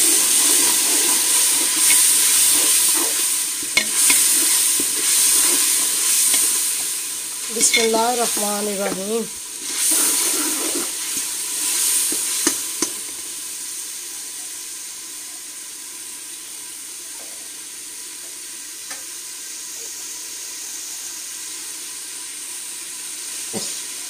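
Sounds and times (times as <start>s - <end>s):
masala sizzling in hot ghee: 0.0s - 24.0s.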